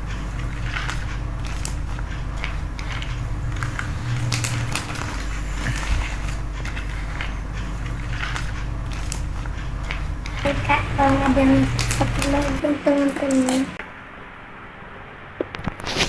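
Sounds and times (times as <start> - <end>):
plastic toys and packaging handled: 0.0 - 13.7.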